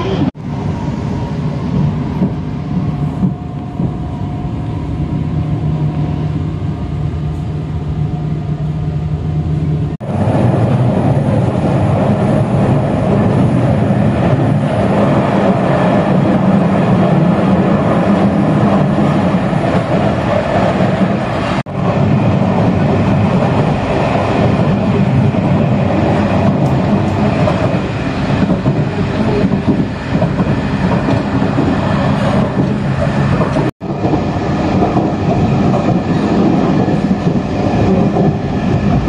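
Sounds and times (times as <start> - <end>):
passenger train rumbling: 0.0 - 39.0.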